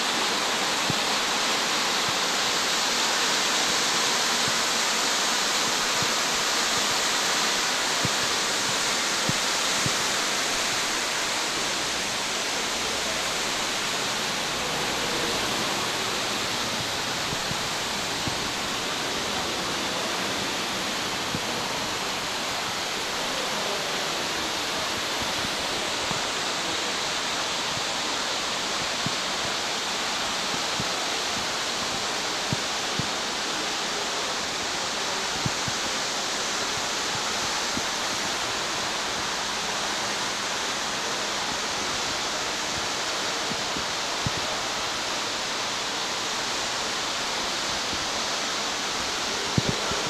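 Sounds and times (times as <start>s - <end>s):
steady rushing hiss: 0.0s - 50.0s.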